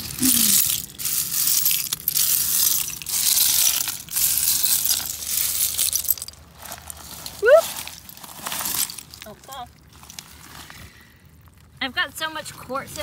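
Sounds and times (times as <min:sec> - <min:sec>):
seashells and pebbles crunching: 0:00.0 - 0:12.1.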